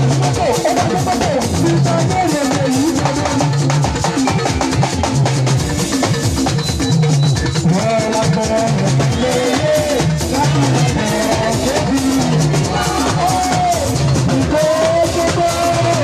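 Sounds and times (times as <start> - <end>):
bass line: 0.0 - 16.0
drum kit beat: 0.0 - 16.0
gospel band music: 0.0 - 16.0.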